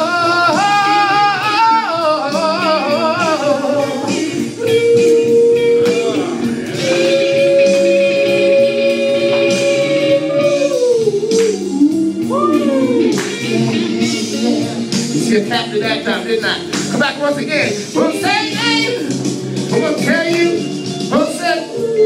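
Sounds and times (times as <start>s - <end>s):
man singing wordless notes: 0.0s - 16.7s, 17.3s - 22.0s
backing music with guitar: 0.0s - 22.0s.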